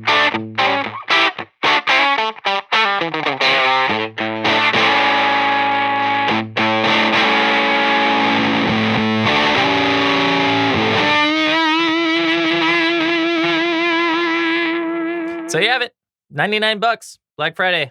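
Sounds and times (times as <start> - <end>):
fuzzed electric guitar notes: 0.0 - 15.6.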